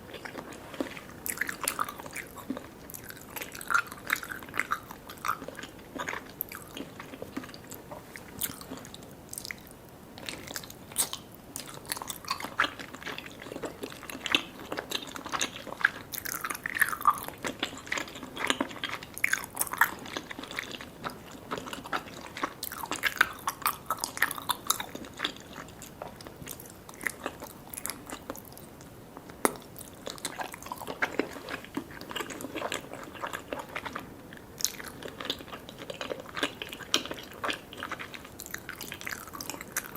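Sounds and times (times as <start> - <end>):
person chewing sticky food: 0.0 - 39.9.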